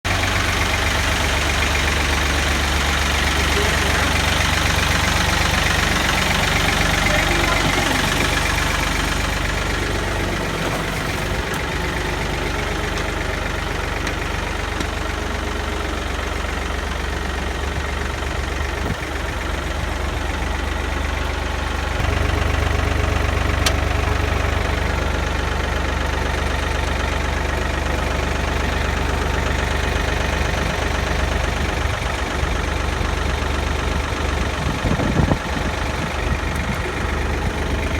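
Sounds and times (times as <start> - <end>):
tractor engine idling: 0.0 - 37.9.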